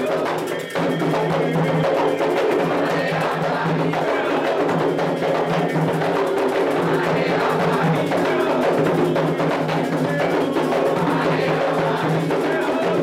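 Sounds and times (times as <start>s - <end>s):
hand drums playing: 0.0s - 13.0s
sharp clicking percussion: 0.0s - 13.0s.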